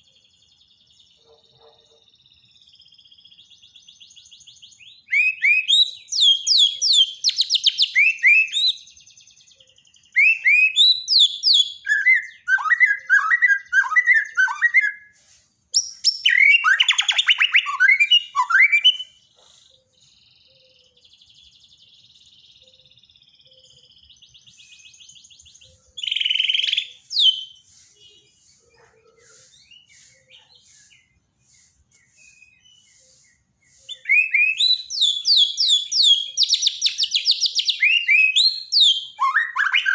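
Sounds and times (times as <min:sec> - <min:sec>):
bird singing whistled phrases: 0:03.1 - 0:19.2, 0:20.4 - 0:39.9.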